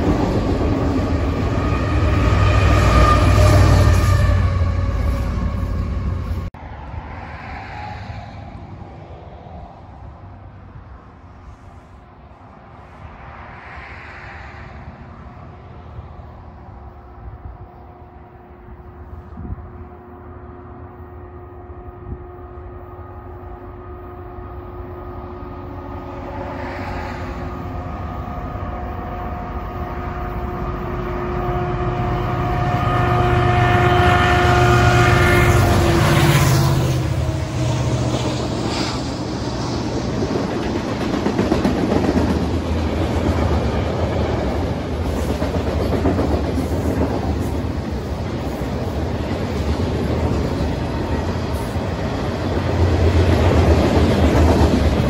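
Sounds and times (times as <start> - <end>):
train wheels rumbling: 0.0 - 6.6, 12.9 - 55.0
locomotive whine: 0.0 - 9.4, 14.4 - 55.0
diesel locomotive engines rumbling: 0.0 - 55.0.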